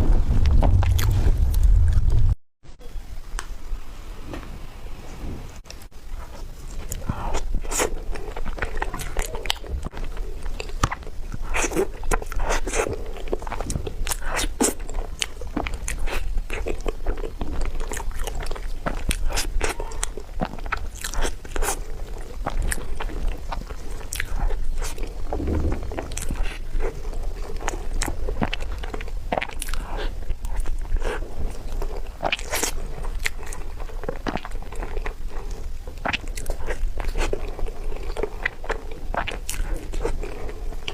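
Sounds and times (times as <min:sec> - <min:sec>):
biting and chewing: 0:00.4 - 0:02.3, 0:05.7 - 0:40.9.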